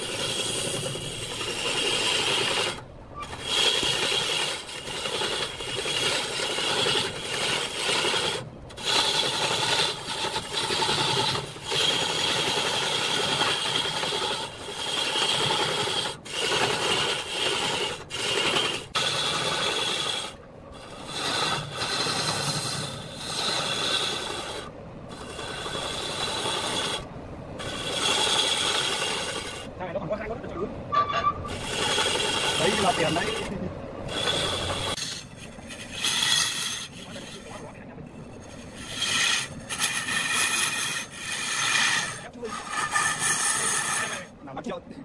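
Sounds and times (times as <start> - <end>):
sanding pad rubbing spinning wood: 0.0 - 29.8, 31.5 - 44.4.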